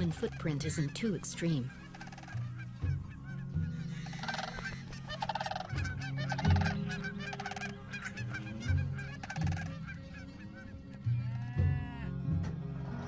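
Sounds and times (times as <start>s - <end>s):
small birds chirping: 0.0s - 11.5s
cranes calling: 0.0s - 12.2s.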